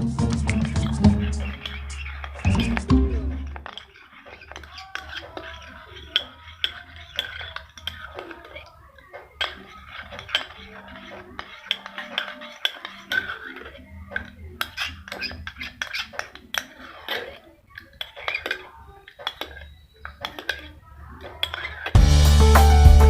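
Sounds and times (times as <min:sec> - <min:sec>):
metal spoon clinking against cup: 0:01.3 - 0:22.0.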